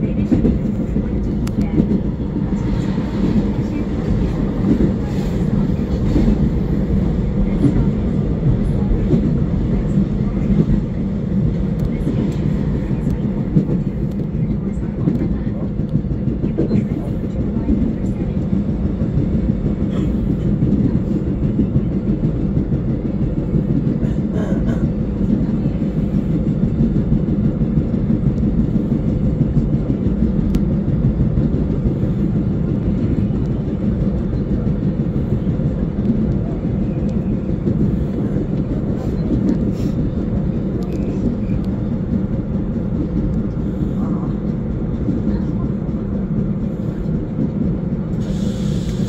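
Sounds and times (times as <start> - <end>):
train low rumble: 0.0 - 49.0.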